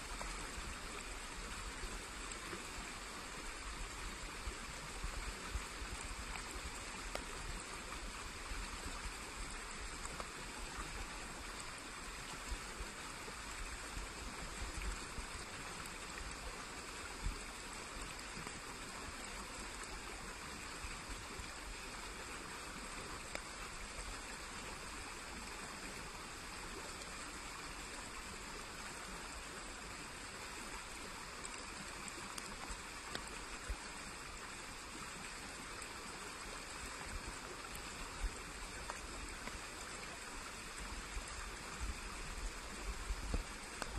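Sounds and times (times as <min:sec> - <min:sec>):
stream trickling and gurgling: 0:00.0 - 0:43.9.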